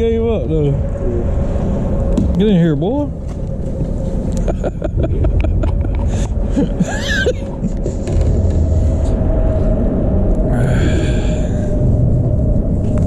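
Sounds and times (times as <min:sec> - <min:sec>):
faint steady hum: 0:00.0 - 0:13.0
steady low rumble: 0:00.0 - 0:13.0.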